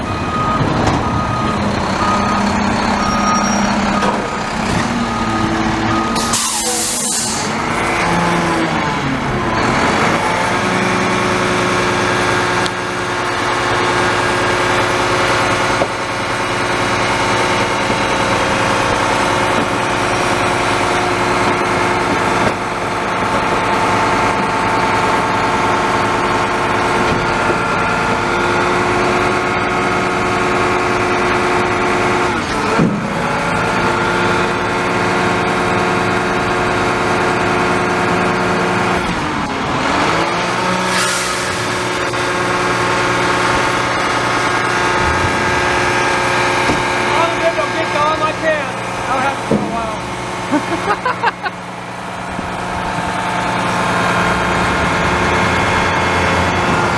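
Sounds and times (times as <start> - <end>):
garbage truck diesel engine running: 0.0 - 56.9.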